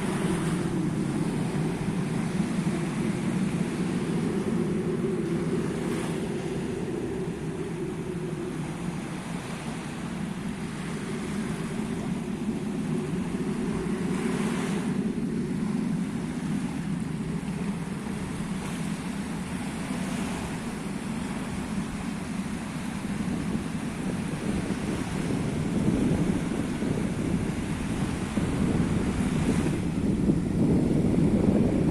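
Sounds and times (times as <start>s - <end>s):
airplane engines humming: 0.0s - 31.9s
small waves washing on shore: 0.0s - 31.9s.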